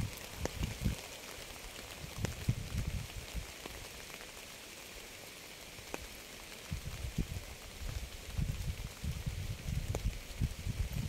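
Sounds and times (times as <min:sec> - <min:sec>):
rain falling: 0:00.0 - 0:11.0
raindrops ticking: 0:00.0 - 0:11.0.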